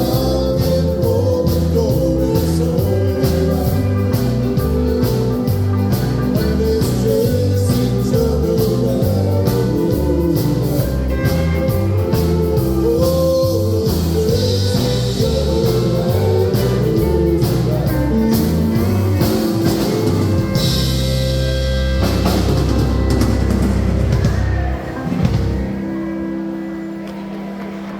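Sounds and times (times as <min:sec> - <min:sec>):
walking bass line: 0:00.0 - 0:27.1
live band playing country song: 0:00.0 - 0:27.9.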